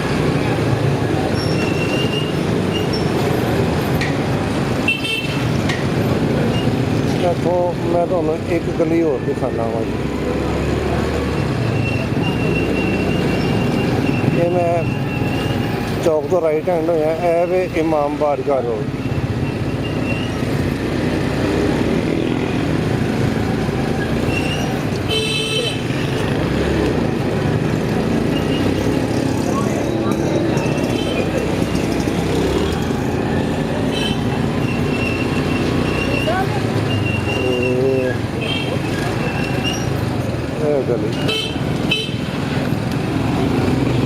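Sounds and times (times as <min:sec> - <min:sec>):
street traffic road noise: 0:00.0 - 0:44.0.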